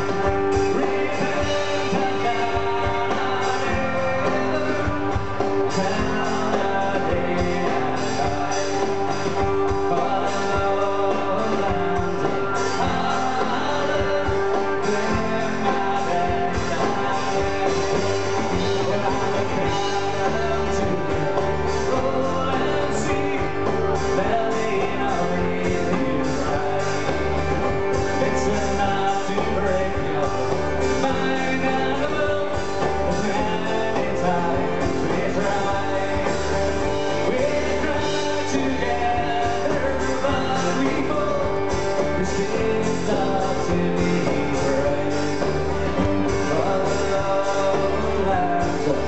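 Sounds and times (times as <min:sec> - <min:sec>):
person singing: 0:00.0 - 0:49.0
strummed acoustic guitars: 0:00.0 - 0:49.0.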